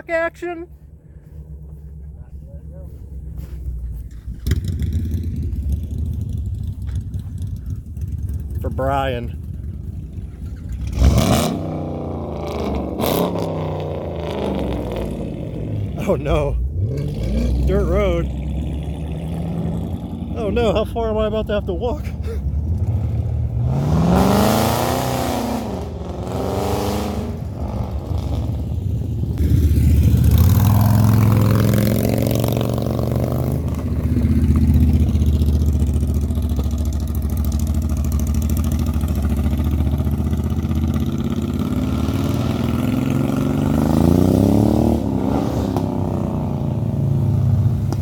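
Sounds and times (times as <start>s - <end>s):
motorcycle engines revving: 0.7s - 48.0s.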